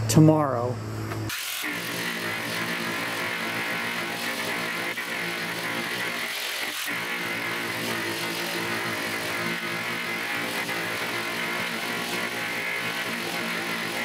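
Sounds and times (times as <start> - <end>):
electric sander on metal: 1.3 - 14.0.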